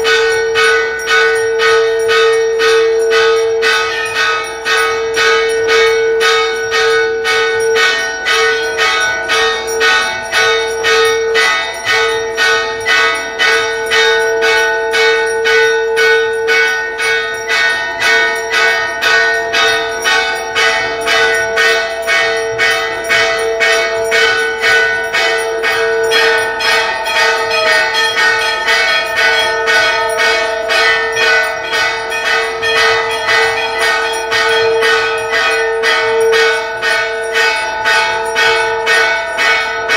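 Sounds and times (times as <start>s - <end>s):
bells rung rapidly: 0.0s - 39.9s.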